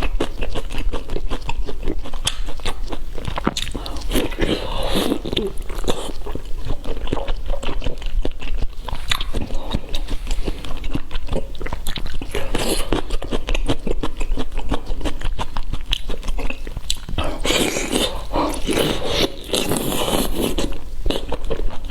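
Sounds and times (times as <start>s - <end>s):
crunchy chewing: 0.0s - 21.9s
wet mouth clicks: 1.4s - 21.8s.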